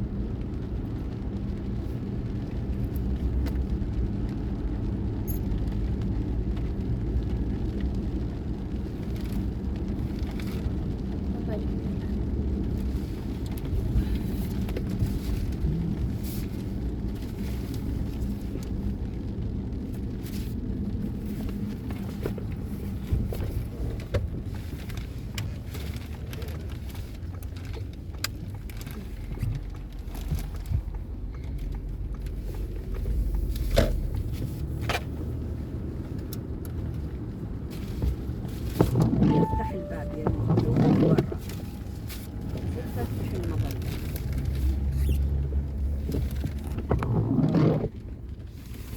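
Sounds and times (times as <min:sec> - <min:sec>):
car driving low rumble: 0:00.0 - 0:48.9.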